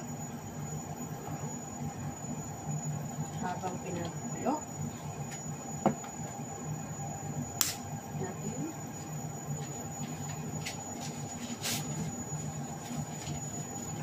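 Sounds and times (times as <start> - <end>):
kitchen background hum: 0.0 - 14.0.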